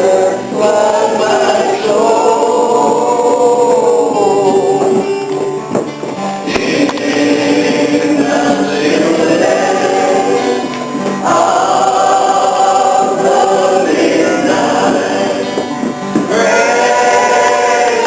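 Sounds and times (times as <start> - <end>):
group singing gospel song: 0.0 - 18.0.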